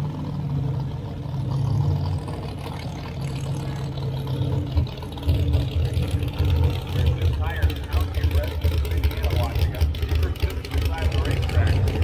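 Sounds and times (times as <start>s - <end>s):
race car engines idling: 0.0s - 12.0s.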